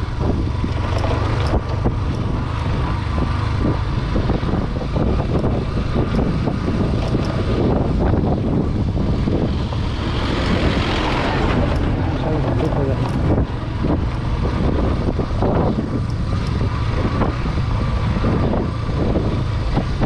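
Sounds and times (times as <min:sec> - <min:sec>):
motorcycle engine at speed: 0:00.0 - 0:20.0.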